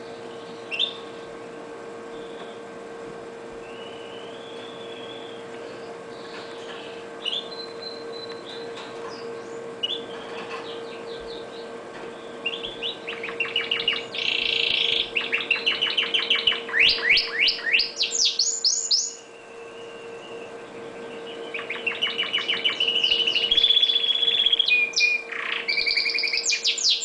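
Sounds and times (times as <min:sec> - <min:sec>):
canary song with trills: 0:00.0 - 0:27.0
canary chirps: 0:00.1 - 0:01.1, 0:03.6 - 0:27.0.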